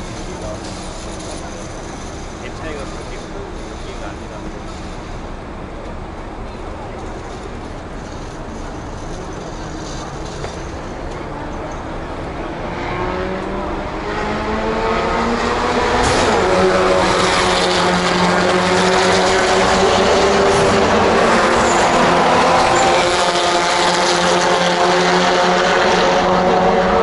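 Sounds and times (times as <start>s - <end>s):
racing car engines at full throttle: 0.0s - 27.0s.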